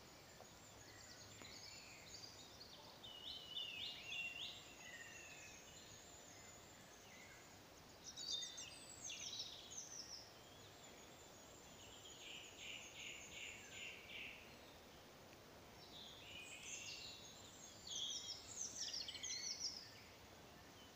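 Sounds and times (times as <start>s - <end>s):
birds chirping and warbling: 0.1s - 15.2s, 15.8s - 20.9s.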